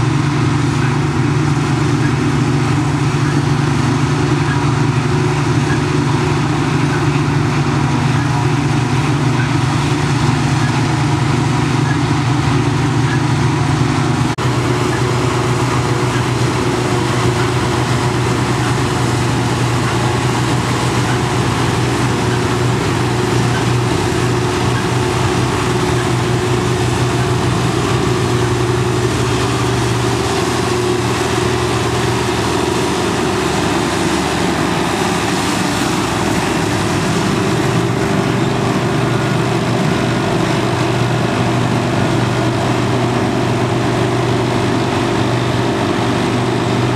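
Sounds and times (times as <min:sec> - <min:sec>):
harvester and tractor engines: 0:00.0 - 0:46.9.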